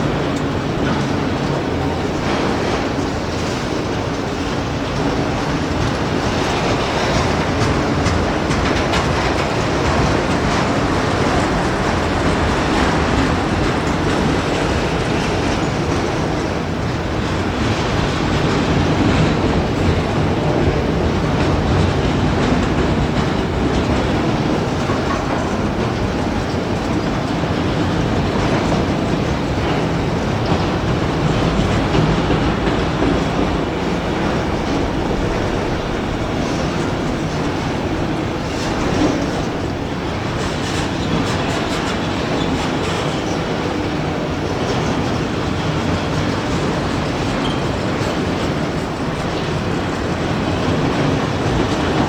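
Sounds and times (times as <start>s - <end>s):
freight train cars rolling past: 0.0s - 52.0s.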